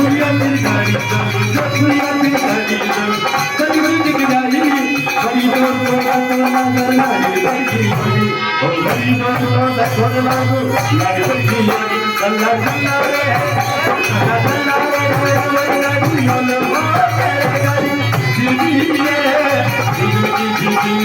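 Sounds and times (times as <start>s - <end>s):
rattling percussion: 0.0s - 21.0s.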